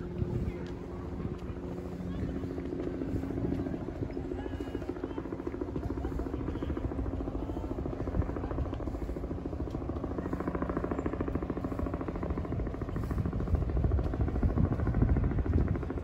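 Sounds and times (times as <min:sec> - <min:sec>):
motor drone with pulsing beat: 0:00.0 - 0:16.0.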